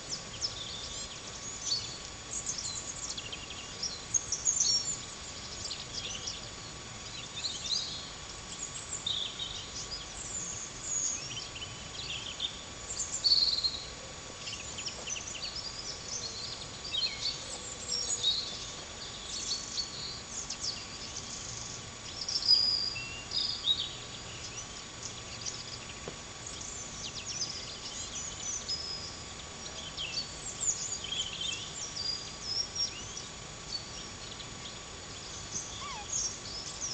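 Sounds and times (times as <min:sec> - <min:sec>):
birds chirping and trilling: 0:00.0 - 0:36.9
faint background hiss: 0:00.0 - 0:36.9.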